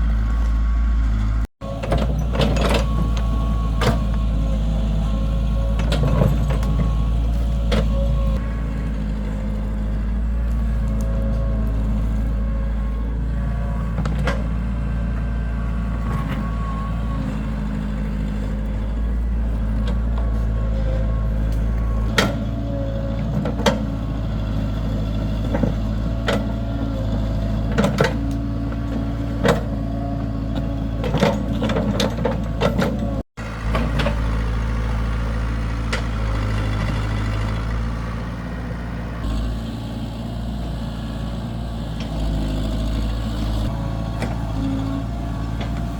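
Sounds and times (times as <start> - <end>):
diesel machinery running: 0.0 - 45.9.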